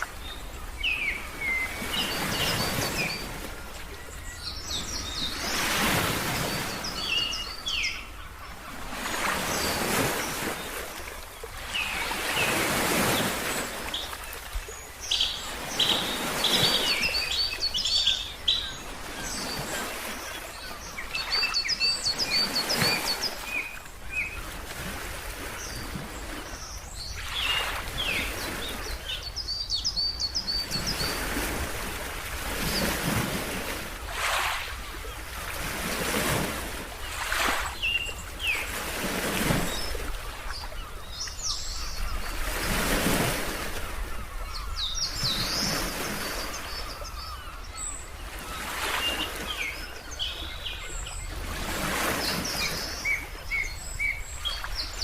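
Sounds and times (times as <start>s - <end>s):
ocean waves washing: 0.0s - 29.4s, 30.4s - 47.3s, 48.3s - 55.0s
birds chirping: 0.0s - 31.8s, 32.4s - 55.0s.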